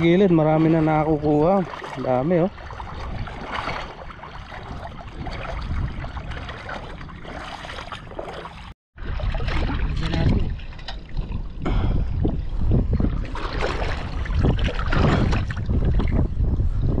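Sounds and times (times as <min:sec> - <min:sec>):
river water sloshing and splashing: 0:00.0 - 0:11.6, 0:12.5 - 0:16.3.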